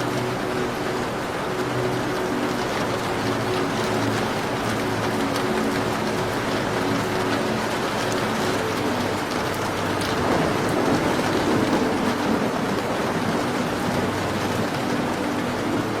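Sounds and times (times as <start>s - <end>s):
fireplace crackles: 0.0s - 16.0s
rain pattering: 0.0s - 16.0s.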